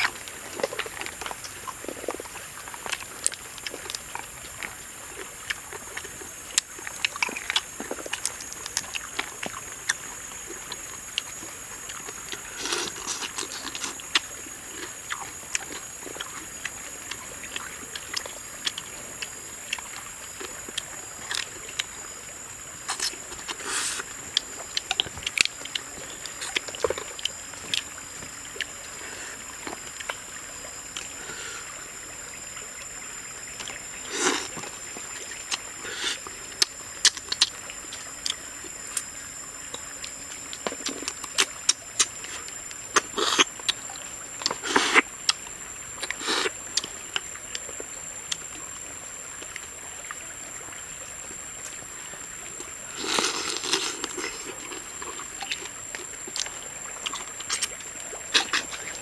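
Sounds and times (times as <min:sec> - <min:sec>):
sucking slurps: 0:00.0 - 0:48.4, 0:51.5 - 0:59.0.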